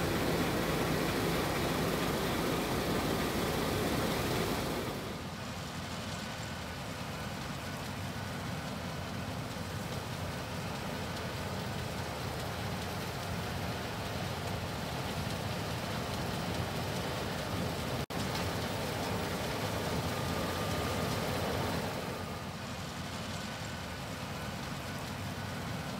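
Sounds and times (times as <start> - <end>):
combine harvester running: 0.0 - 25.9.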